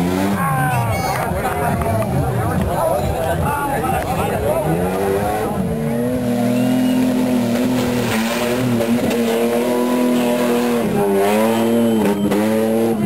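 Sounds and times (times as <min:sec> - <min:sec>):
off-road vehicle engine revving hard: 0:00.0 - 0:02.8, 0:03.4 - 0:13.0.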